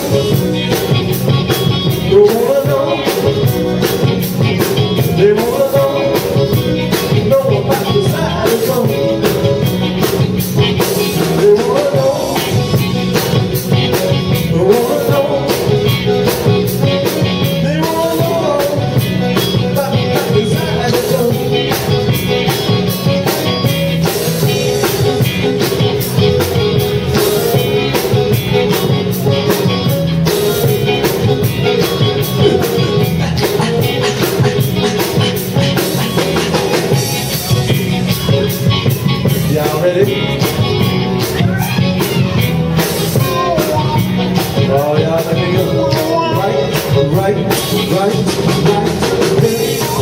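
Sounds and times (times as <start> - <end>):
blues-rock band playing: 0.0 - 50.0
person singing: 0.0 - 50.0.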